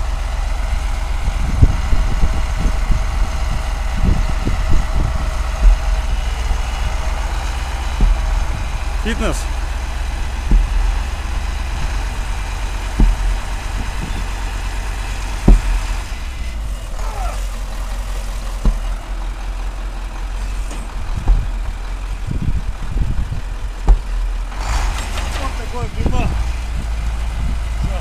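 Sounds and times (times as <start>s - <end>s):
dull thuds of log tamper: 0.0s - 28.0s
truck engine idling: 0.0s - 28.0s.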